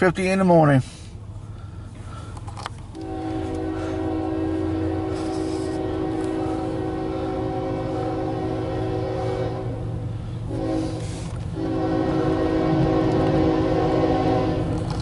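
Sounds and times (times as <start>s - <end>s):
locomotive rumble: 0.0s - 15.0s
locomotive air horn blasts: 2.9s - 15.0s.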